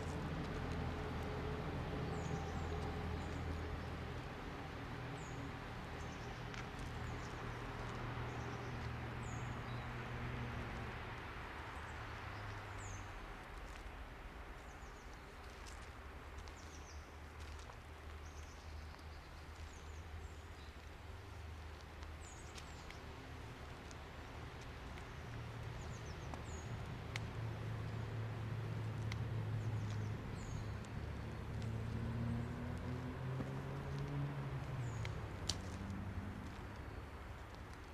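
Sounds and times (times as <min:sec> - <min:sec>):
small birds chirping: 0:00.0 - 0:13.9, 0:14.6 - 0:37.9.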